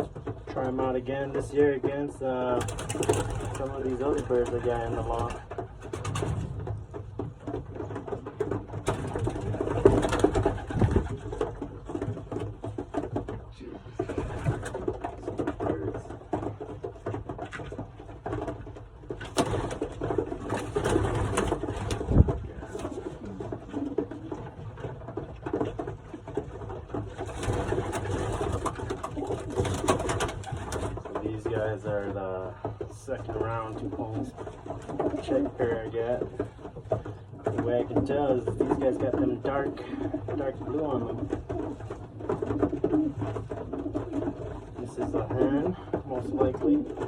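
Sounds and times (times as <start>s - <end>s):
pigeons cooing: 0.0s - 47.0s.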